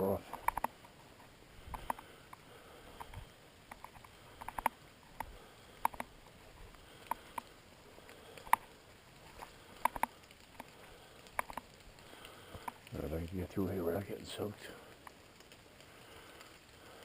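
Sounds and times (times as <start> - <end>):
faint hiss of rain: 0.0 - 17.0
raindrops tapping: 1.7 - 17.0.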